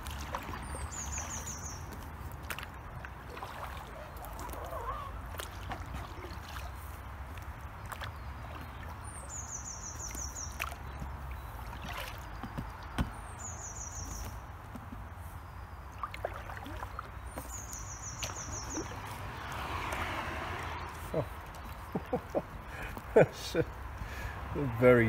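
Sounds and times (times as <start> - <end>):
water drips: 0.0 - 24.8
canoe paddle strokes in water: 0.0 - 25.0.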